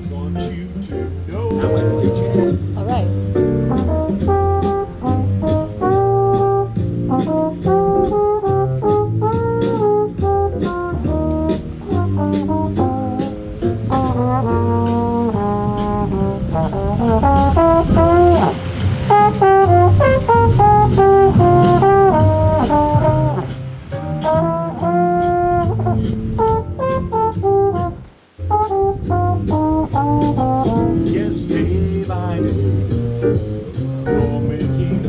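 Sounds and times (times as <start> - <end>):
backing track with bass and beat: 0.0 - 35.0
jazz trombone solo: 0.0 - 35.0.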